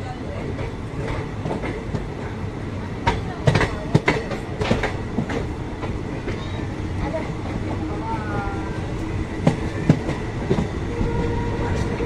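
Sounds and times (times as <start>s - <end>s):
train coaches rumbling past: 0.0s - 12.0s.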